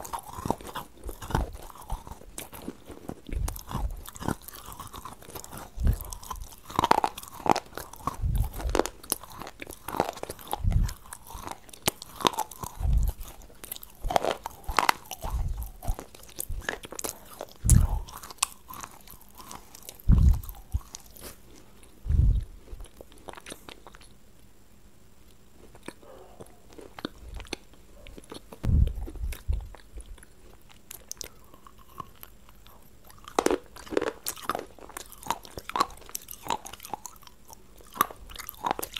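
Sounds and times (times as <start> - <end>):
crunching and chewing: 0.0 - 24.5, 25.2 - 38.9.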